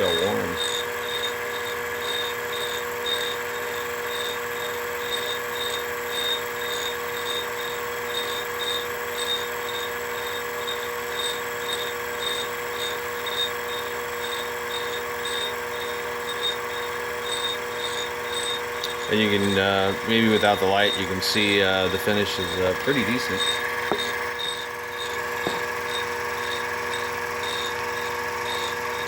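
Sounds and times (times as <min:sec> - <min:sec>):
pulsing high tone: 0:00.0 - 0:03.4, 0:08.6 - 0:29.0
milling machine motor hum: 0:00.0 - 0:29.0.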